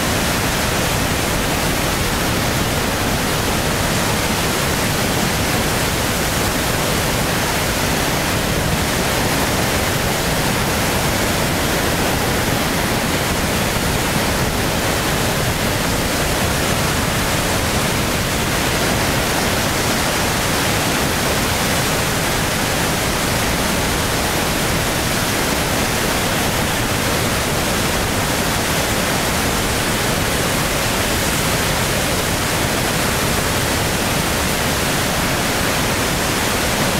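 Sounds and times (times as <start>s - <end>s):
floodwater roaring over weir: 0.0s - 36.9s.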